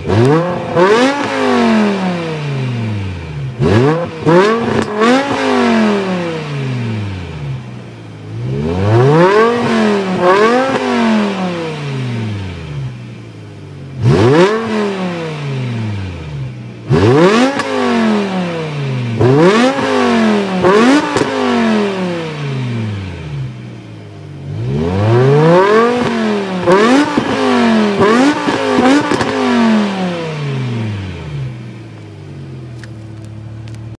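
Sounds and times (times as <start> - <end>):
car engine idling: 0.0 - 17.6, 18.2 - 29.2, 30.4 - 34.0
car engine revving: 0.0 - 34.0.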